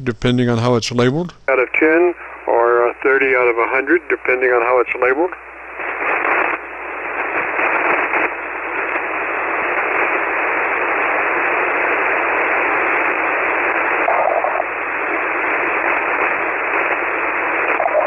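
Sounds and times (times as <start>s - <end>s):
radio band noise hiss: 0.0s - 18.0s.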